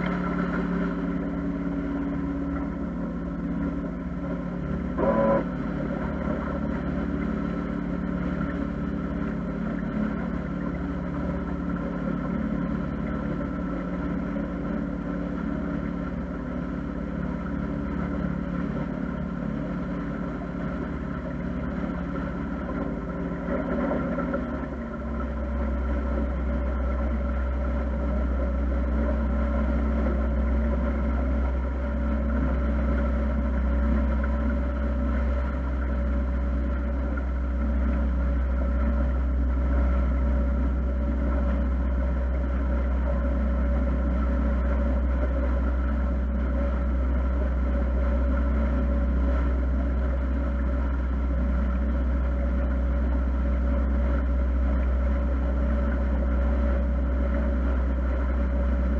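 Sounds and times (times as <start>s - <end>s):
boat engine running: 0.0s - 58.9s.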